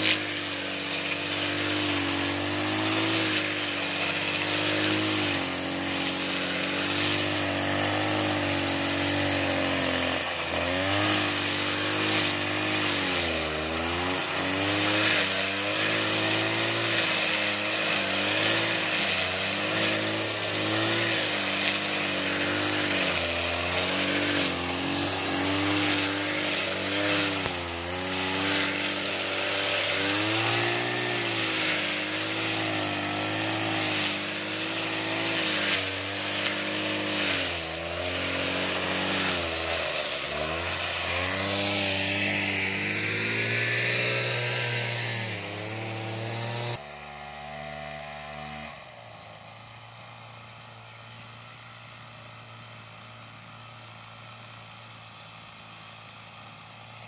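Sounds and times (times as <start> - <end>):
brush cutter engine cutting grass: 0.0 - 57.0.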